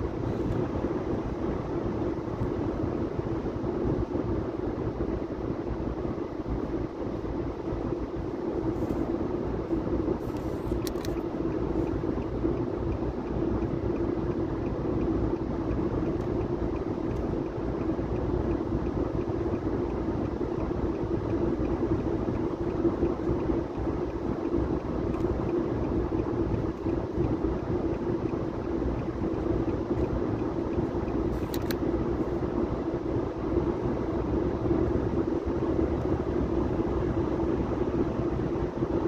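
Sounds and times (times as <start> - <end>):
car road and engine noise: 0.0 - 39.0.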